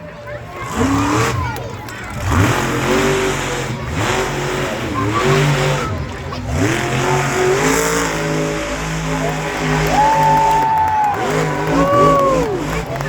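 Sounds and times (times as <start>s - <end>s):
truck engine revving: 0.3s - 13.0s.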